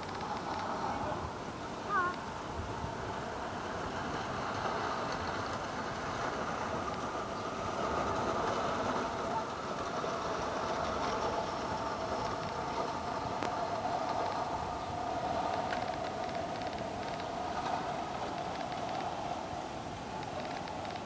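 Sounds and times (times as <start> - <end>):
reel mower whirring clatter: 0.0 - 21.0.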